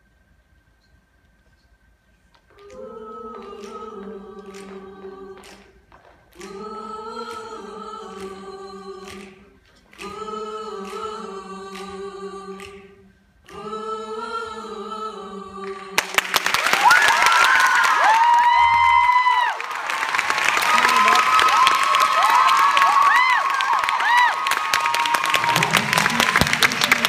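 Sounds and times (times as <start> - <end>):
mixed-voice choir singing held chords: 2.5 - 27.0.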